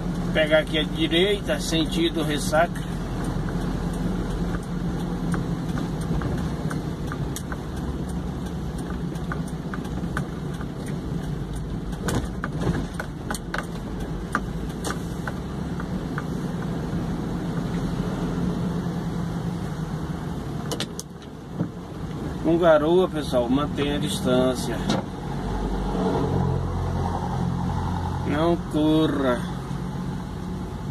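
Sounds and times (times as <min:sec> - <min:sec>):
vehicle engine and tyre noise: 0:00.0 - 0:30.9.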